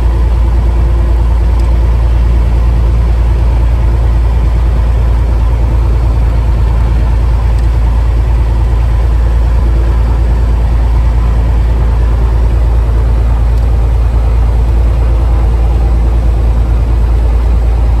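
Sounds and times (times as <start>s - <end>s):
aircraft engine droning: 0.0s - 18.0s.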